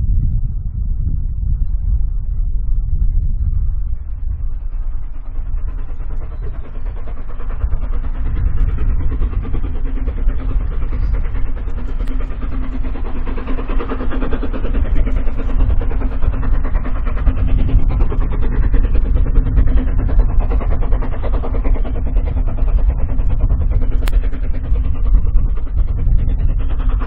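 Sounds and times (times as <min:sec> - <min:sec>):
steam locomotive exhaust beating: 0:00.0 - 0:27.0.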